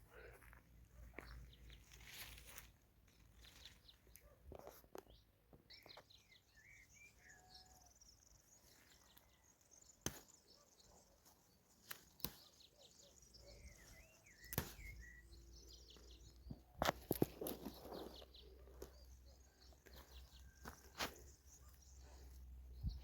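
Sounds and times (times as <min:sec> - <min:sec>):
small birds chirping faintly: 0:00.0 - 0:23.0.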